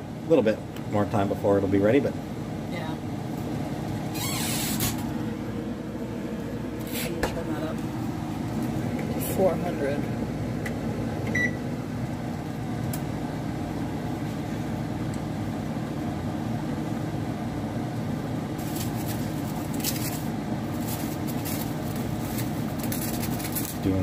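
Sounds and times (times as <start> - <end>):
kitchen appliance electrical hum: 0.0 - 24.0.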